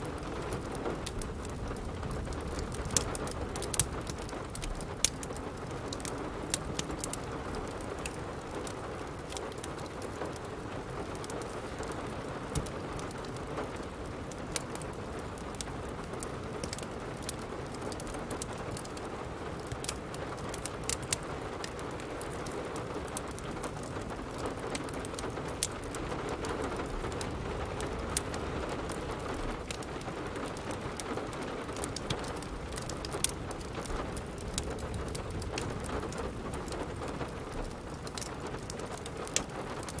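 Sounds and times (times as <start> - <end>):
steady rain hiss: 0.0 - 40.0
wood fire crackling: 0.0 - 40.0.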